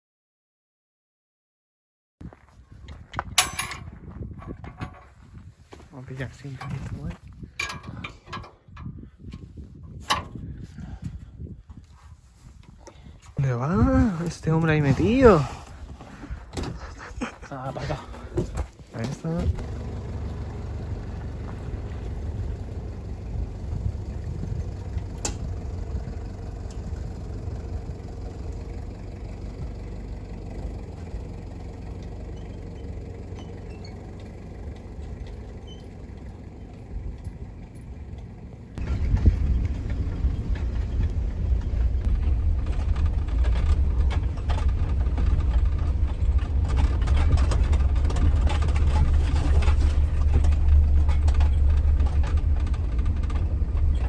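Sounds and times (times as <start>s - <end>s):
wind buffeting microphone: 2.2s - 33.0s, 36.8s - 54.0s
dirt bike engine rumbling: 2.2s - 54.0s.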